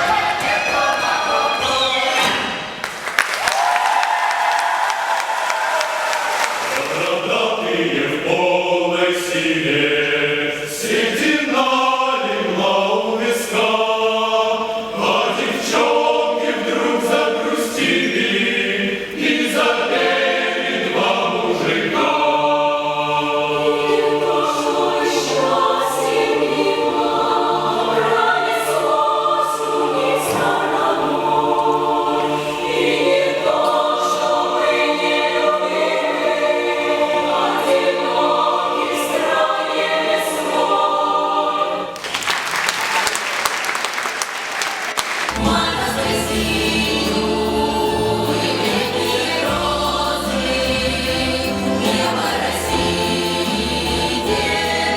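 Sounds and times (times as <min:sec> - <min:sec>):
choir singing: 0:00.0 - 0:02.8, 0:03.4 - 0:42.1, 0:45.1 - 0:54.9.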